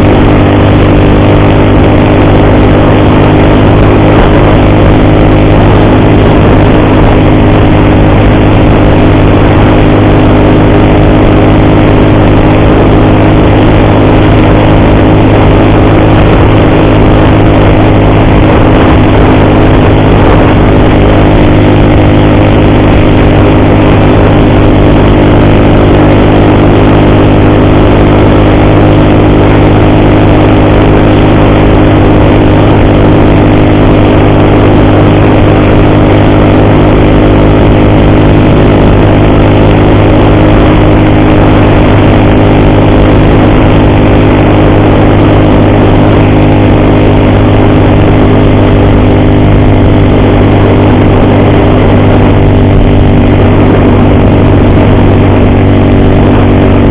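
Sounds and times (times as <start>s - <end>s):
motorcycle engine running steadily: 0.0s - 56.9s.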